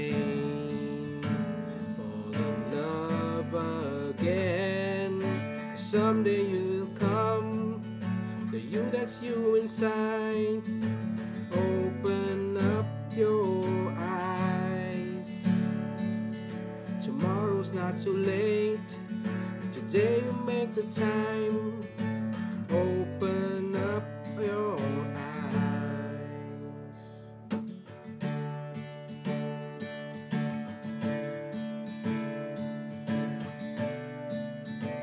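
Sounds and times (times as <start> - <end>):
acoustic guitar strummed and picked: 0.0 - 35.0.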